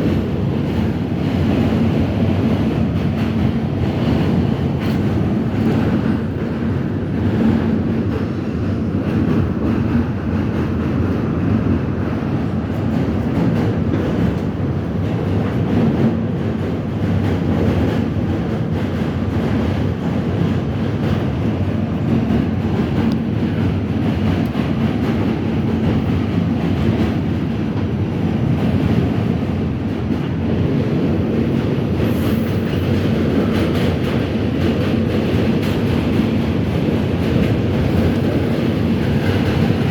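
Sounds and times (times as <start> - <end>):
subway train rumbling: 0.0 - 39.9.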